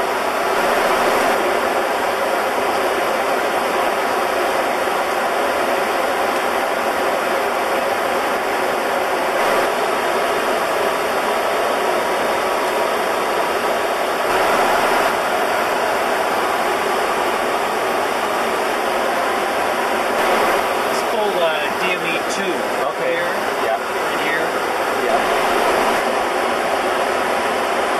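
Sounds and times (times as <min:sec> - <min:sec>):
low aircraft drone: 0:00.0 - 0:27.9.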